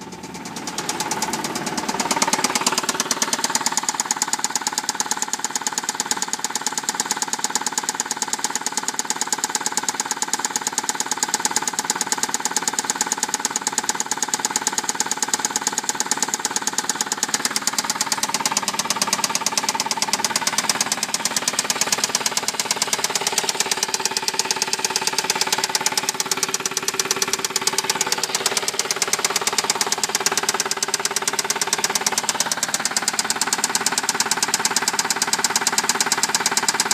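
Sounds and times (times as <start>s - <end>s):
car engine knocking: 0.0s - 36.9s.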